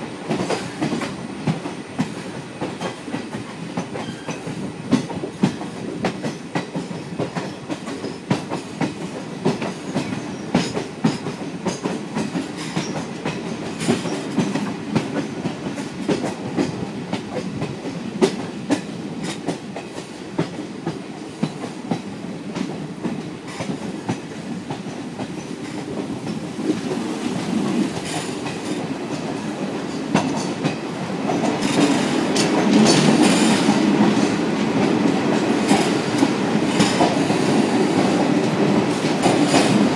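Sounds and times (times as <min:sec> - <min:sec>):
train rumble: 0:00.0 - 0:39.9
train wheels clicking over rail joints: 0:00.2 - 0:39.9.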